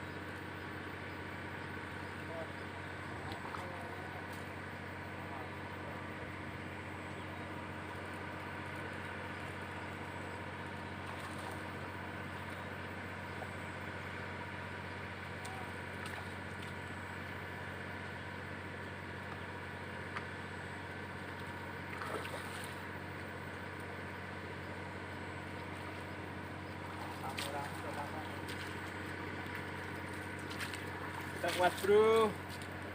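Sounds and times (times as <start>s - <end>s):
small engine droning: 0.0s - 32.9s.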